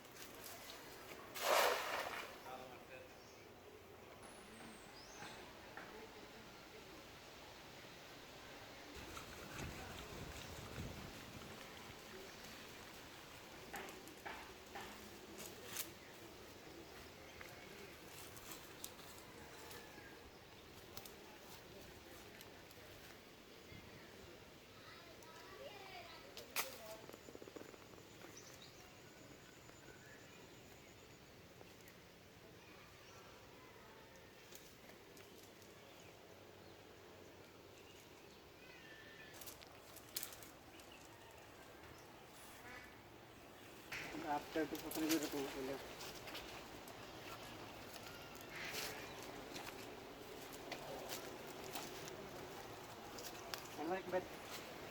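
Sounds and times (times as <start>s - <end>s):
faint outdoor background: 0.0s - 54.9s.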